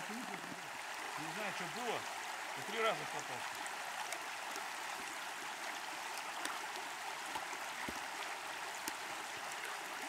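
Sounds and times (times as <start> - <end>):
water rushing over stones: 0.0 - 10.0.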